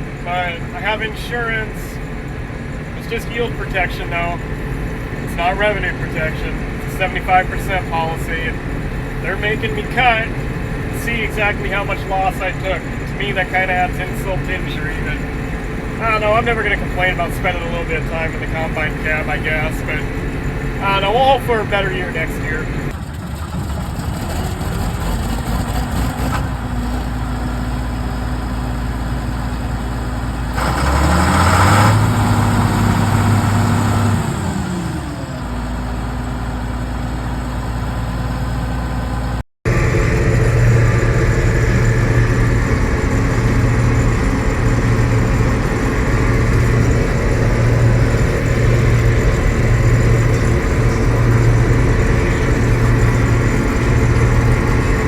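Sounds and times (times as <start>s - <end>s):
combine diesel engine running: 0.0s - 55.0s.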